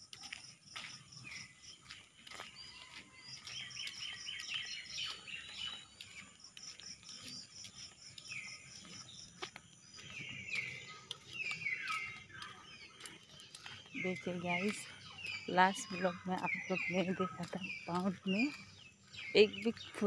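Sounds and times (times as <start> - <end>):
songbirds chirping and singing: 0.0 - 20.0.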